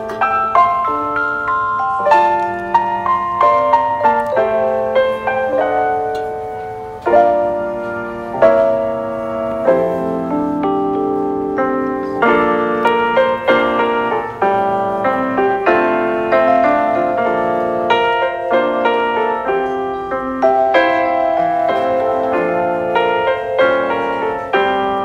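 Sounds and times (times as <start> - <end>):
piano chords and notes: 0.0 - 25.0.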